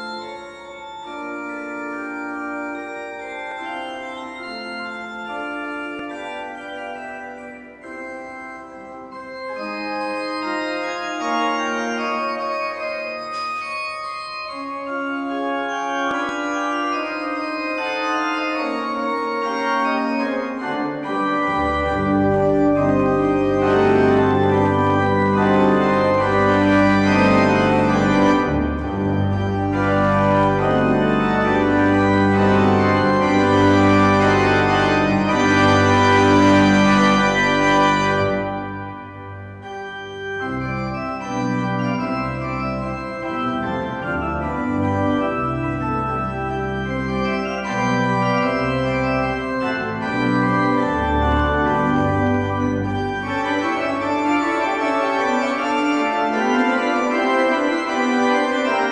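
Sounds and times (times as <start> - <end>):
organ chords: 0.0 - 58.9.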